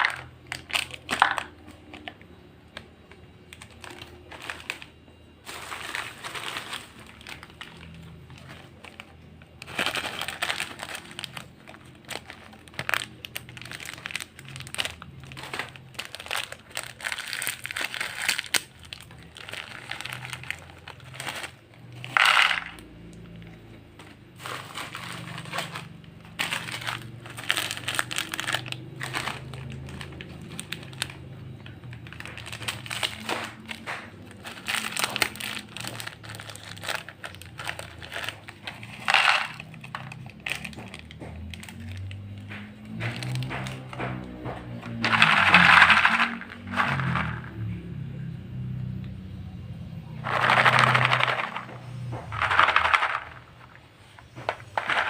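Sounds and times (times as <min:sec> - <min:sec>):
plastic snack packets crinkling: 0:00.0 - 0:49.0, 0:50.1 - 0:55.0.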